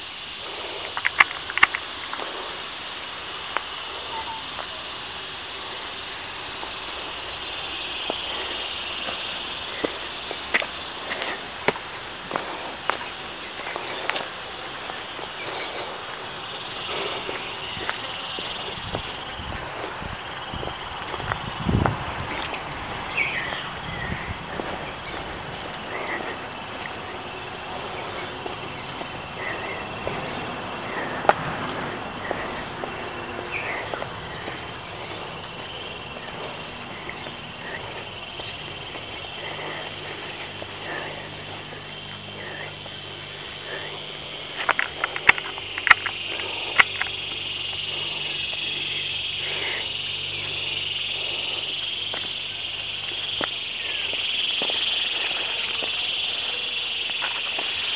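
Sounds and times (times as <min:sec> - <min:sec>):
insect chirping calls: 0:00.0 - 0:57.9
insects buzzing: 0:00.0 - 0:57.9.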